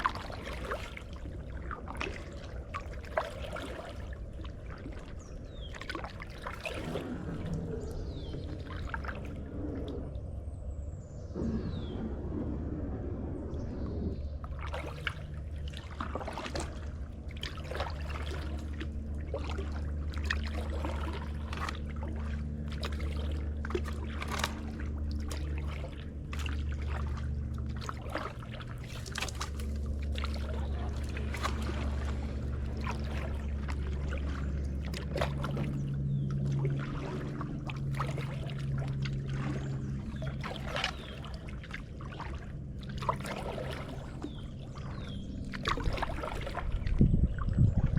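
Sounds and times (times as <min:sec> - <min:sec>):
paddle splashing water: 0:00.0 - 0:10.7, 0:13.4 - 0:47.9
steady low hum: 0:00.0 - 0:47.9.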